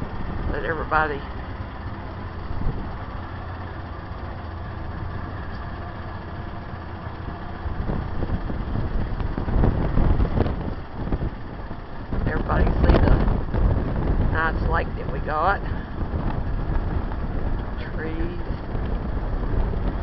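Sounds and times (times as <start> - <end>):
vehicle driving slowly: 0.0 - 20.0
wind buffeting microphone: 0.0 - 20.0.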